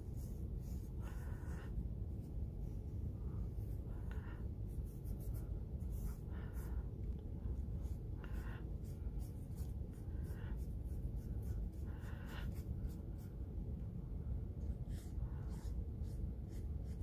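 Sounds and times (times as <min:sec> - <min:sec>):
paintbrush strokes on paper: 0:00.0 - 0:13.4, 0:14.6 - 0:17.0
low hum: 0:00.0 - 0:17.0.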